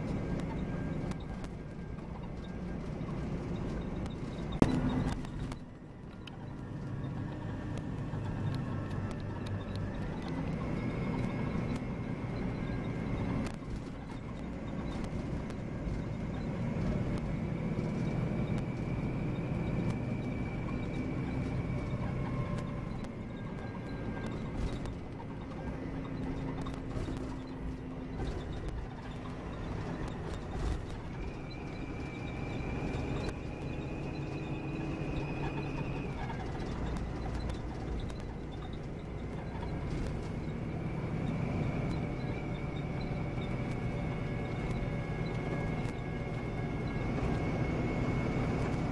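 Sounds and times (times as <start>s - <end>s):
diesel engine and road rumble: 0.0s - 48.9s
coach squeaks and clicks: 0.1s - 48.9s.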